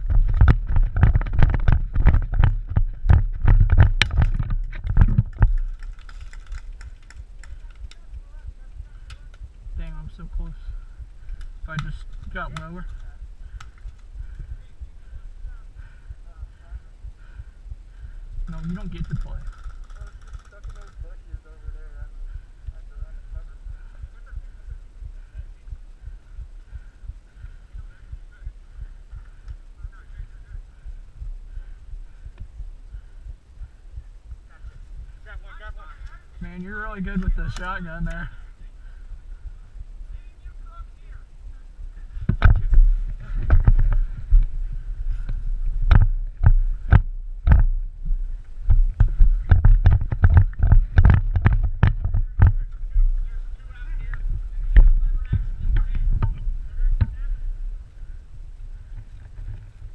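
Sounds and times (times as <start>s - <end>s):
low thumping rumble: 0.0s - 59.9s.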